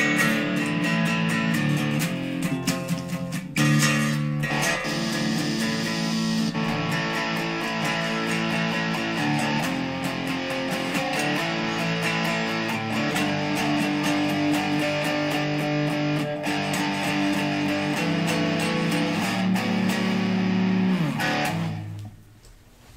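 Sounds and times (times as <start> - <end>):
electric guitar chords: 0.0 - 22.3.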